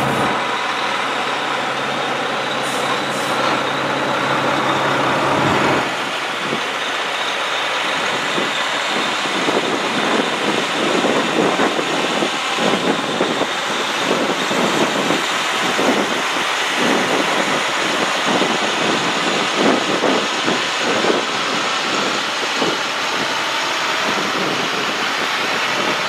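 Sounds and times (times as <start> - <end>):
diesel tow truck engines: 0.0 - 26.0.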